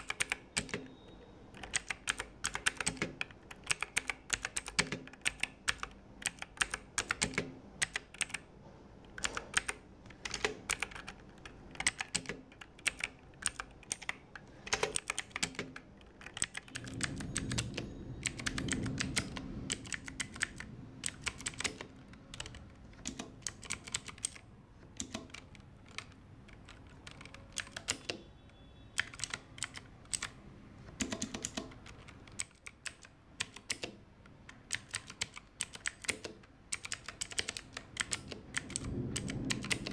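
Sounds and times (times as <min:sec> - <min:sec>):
clicky mechanical keyboard typing: 0:00.0 - 0:39.9.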